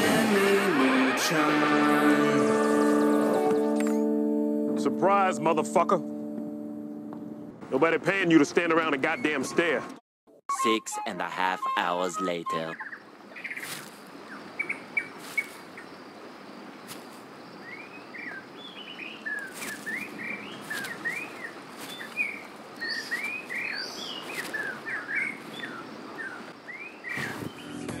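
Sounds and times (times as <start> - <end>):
birds chirping: 0.2 - 4.2, 6.8 - 10.0, 10.6 - 28.0.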